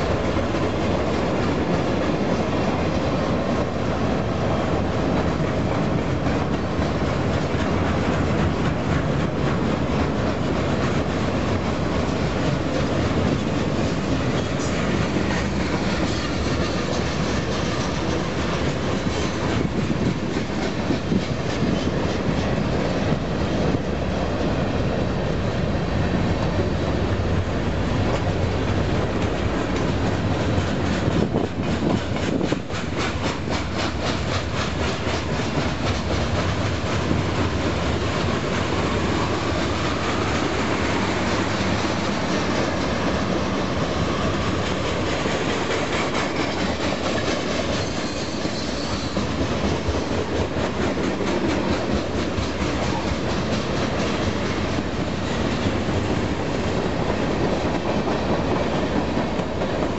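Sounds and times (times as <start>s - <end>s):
clickety-clack over rail joints: 0.0s - 59.9s
train wheels rumbling on rails: 0.0s - 59.9s.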